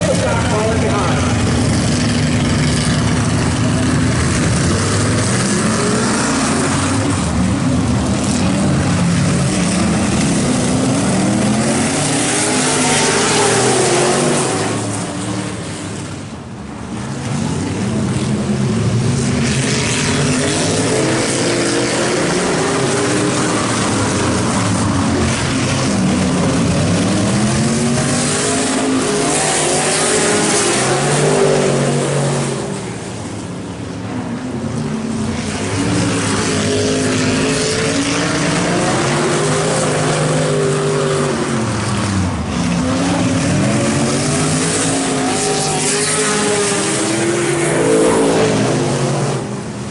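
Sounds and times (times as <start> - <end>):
race truck engines passing: 0.0 - 49.9.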